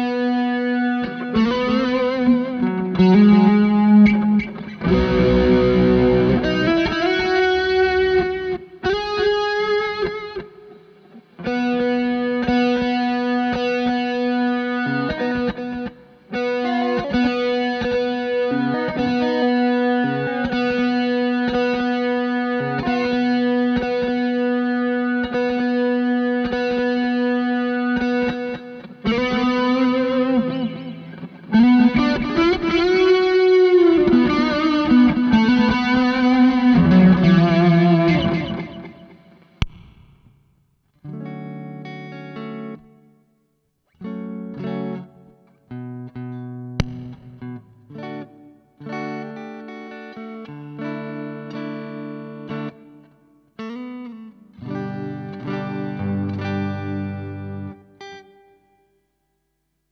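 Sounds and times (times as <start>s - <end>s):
distorted electric guitar with delay: 0.0s - 40.4s, 44.0s - 52.7s, 53.6s - 58.6s.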